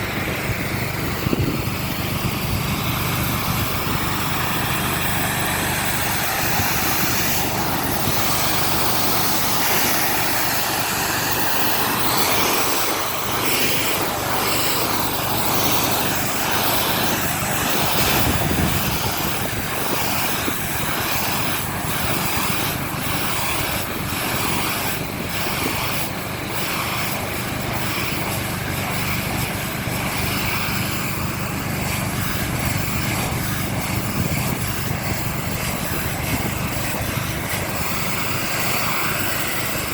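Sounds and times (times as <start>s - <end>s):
high-pressure water spray hissing: 0.0s - 39.9s
pressure washer engine hum: 0.0s - 39.9s.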